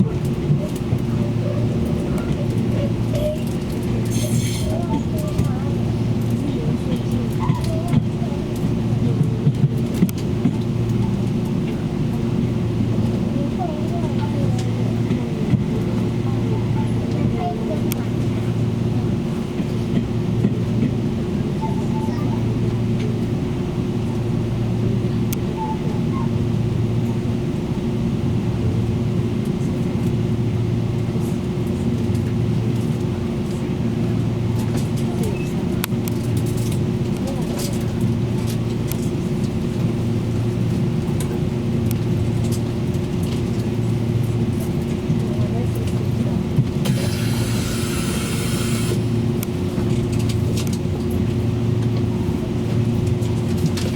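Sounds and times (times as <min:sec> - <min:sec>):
train interior rumble: 0:00.0 - 0:53.9.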